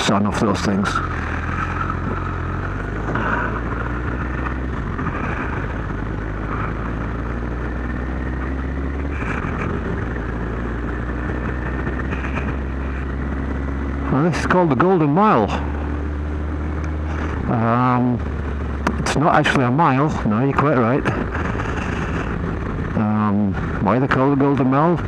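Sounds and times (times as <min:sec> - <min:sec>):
motorcycle engine running: 0:00.0 - 0:25.0
road noise: 0:00.0 - 0:25.0.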